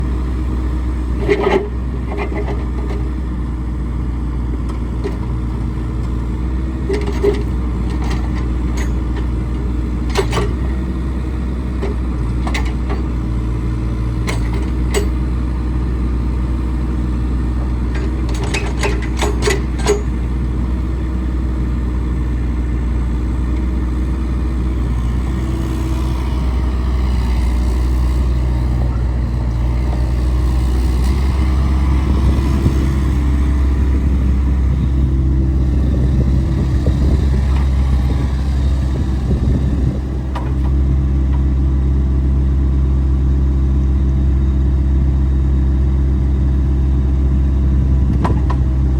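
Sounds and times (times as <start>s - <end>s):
mini excavator diesel engine running: 0.0s - 48.9s.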